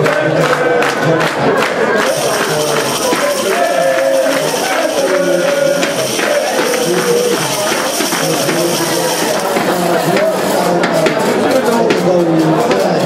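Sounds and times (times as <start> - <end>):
crowd singing and chanting: 0.0 - 13.0
hand claps: 0.0 - 13.0.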